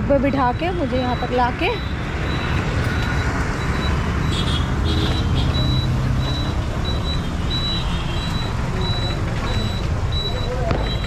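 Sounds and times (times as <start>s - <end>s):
faint high-pitched beeping: 0.2s - 4.4s, 5.2s - 11.0s.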